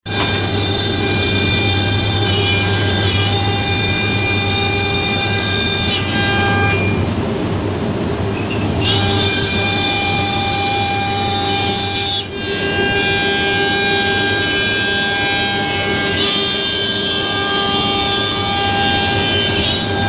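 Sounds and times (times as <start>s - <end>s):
router spindle whine: 0.0s - 20.0s
low machine hum: 0.1s - 20.0s.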